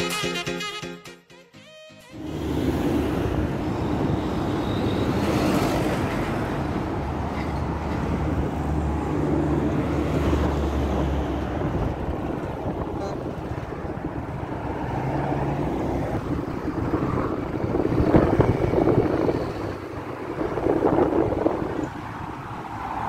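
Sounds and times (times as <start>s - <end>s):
wind rushing over microphone: 2.3s - 23.0s.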